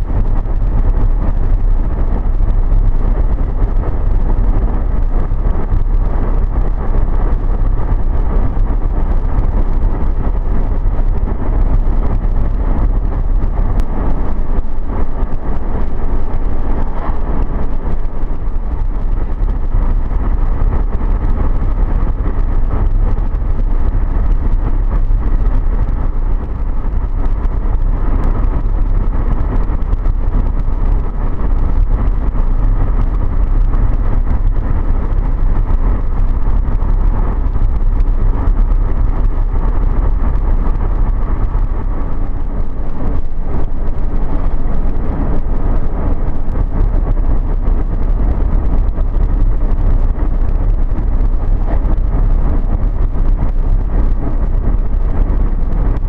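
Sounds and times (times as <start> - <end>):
vehicle rumbling at highway speed: 0.0 - 56.0.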